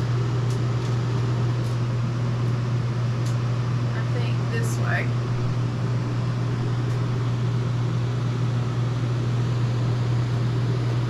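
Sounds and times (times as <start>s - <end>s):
air conditioner blower rushing: 0.0s - 11.0s
constant low hum: 0.0s - 11.0s.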